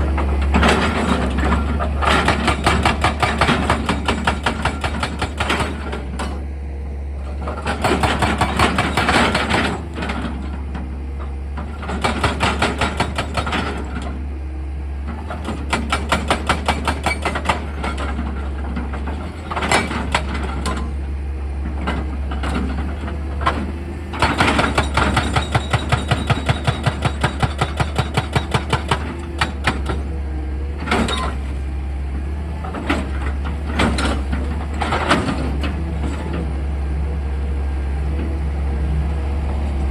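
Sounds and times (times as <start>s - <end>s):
hydraulic hammer pounding rock: 0.0s - 6.4s, 7.4s - 10.7s, 11.6s - 14.2s, 15.1s - 21.0s, 21.6s - 31.6s, 32.6s - 36.5s
diesel engine running: 0.0s - 39.9s.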